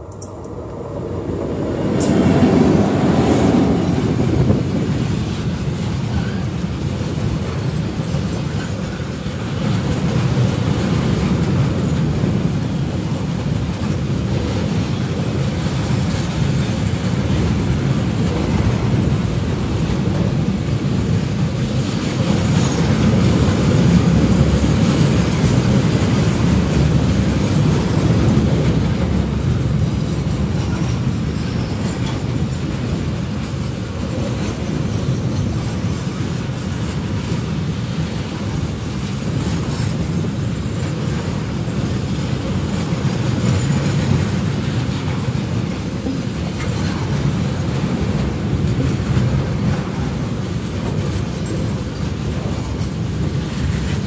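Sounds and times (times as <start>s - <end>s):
freight train passing: 0.0s - 54.0s
wheels rumbling on rails: 0.0s - 54.0s.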